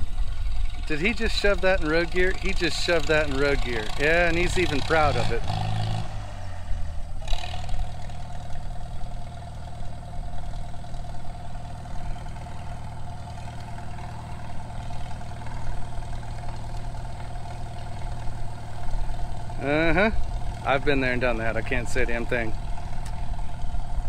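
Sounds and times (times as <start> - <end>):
distant tractor engine running: 0.0 - 24.0.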